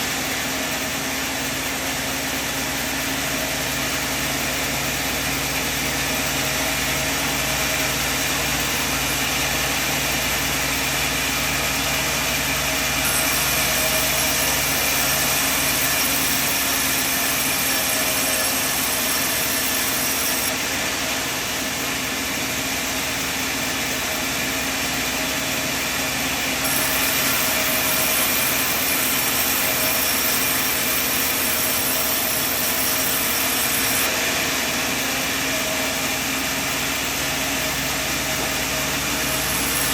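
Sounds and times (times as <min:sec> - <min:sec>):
high-pitched whine: 0:00.0 - 0:39.9
sawmill machine running: 0:00.0 - 0:39.9.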